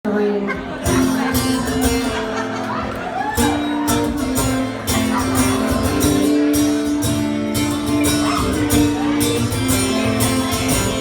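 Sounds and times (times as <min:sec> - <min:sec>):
guitar strumming chords: 0:00.1 - 0:11.0.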